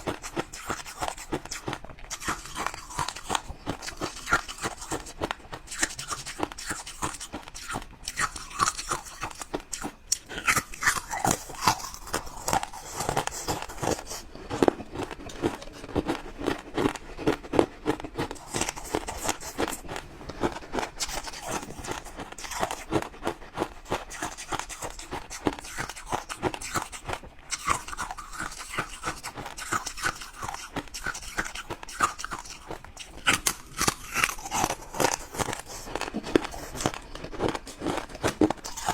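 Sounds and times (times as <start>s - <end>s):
crunching and chewing ice: 0.0s - 38.9s.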